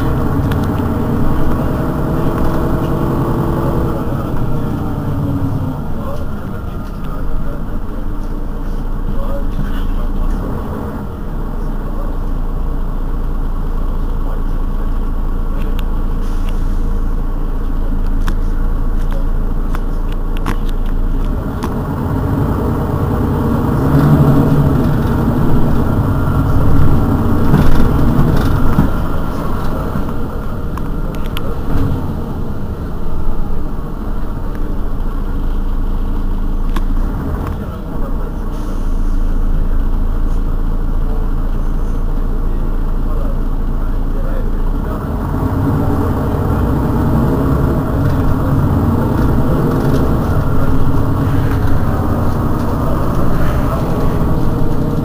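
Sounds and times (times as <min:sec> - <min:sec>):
bus engine humming: 0:00.0 - 0:55.0.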